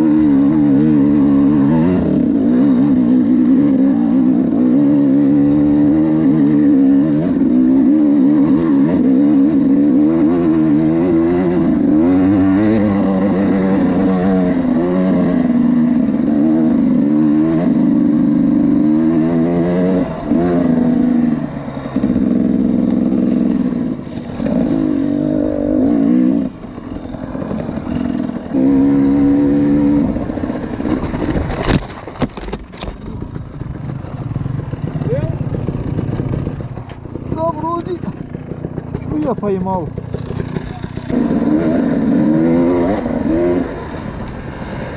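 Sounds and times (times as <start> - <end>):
motorcycle engine revving: 0.0 - 31.8, 32.7 - 44.9.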